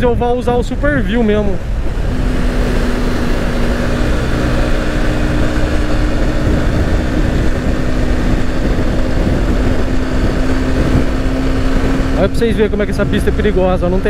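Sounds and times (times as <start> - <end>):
motorcycle engine cruising: 0.0 - 14.0
wind rush on microphone: 0.0 - 14.0.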